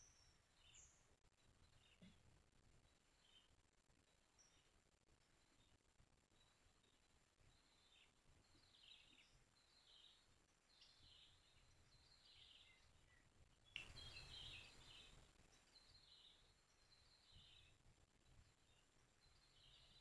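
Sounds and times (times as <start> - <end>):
faint bird chirping: 0.0 - 20.0.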